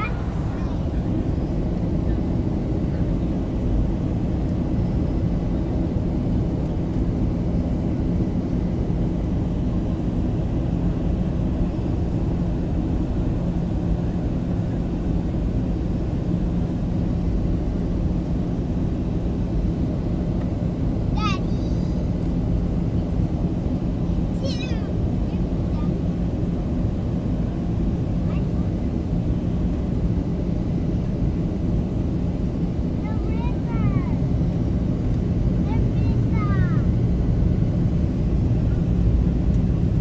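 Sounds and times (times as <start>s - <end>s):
constant low hum: 0.0s - 40.0s
jet engines rumbling: 0.0s - 40.0s.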